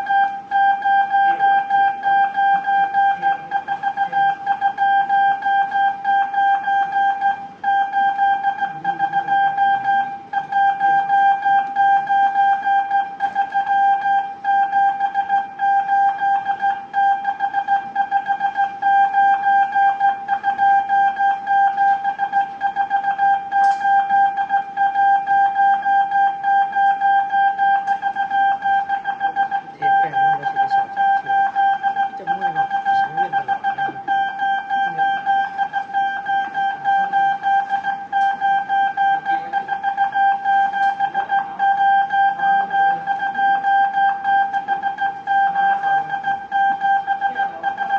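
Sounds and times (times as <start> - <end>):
morse code beeps: 0.0 - 47.9.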